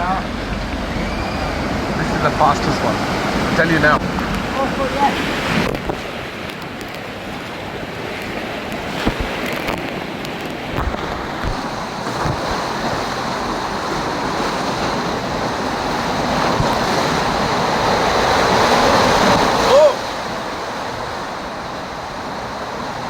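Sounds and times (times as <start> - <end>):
rushing splashing water: 0.0 - 23.0
wind on microphone: 0.0 - 23.0.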